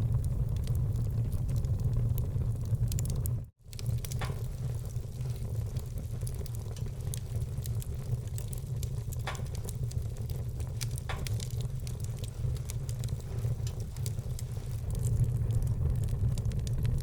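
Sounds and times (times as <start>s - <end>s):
wood fire burning: 0.0s - 17.0s.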